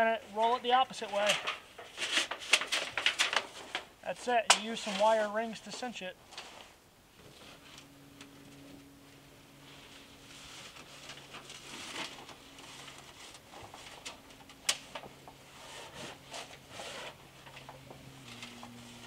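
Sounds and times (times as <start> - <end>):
thin metal sheet crinkling: 0.1 - 6.7, 9.7 - 19.0.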